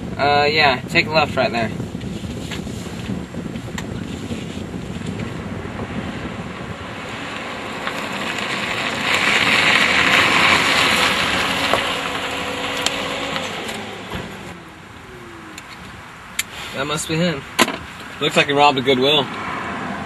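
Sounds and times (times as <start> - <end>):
car engine: 0.0 - 20.0
road noise: 0.0 - 20.0.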